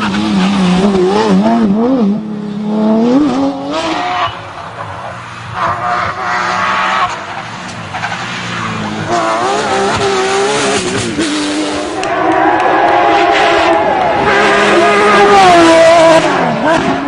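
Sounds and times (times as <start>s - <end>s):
rally car engine revving: 0.0s - 17.0s
tyres skidding: 3.1s - 17.0s.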